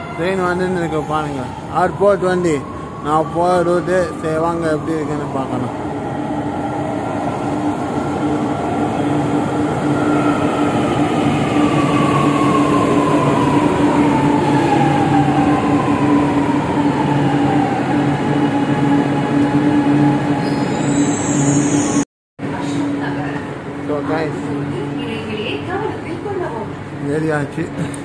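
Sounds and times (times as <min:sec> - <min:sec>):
metro train pulling in: 0:00.0 - 0:28.0.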